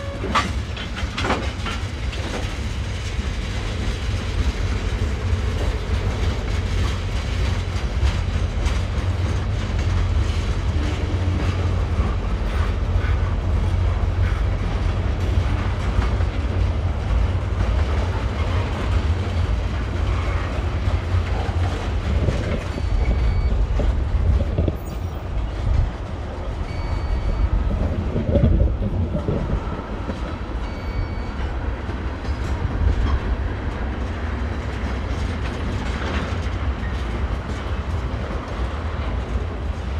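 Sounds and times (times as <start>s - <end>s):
train clattering over rails: 0.0s - 39.9s.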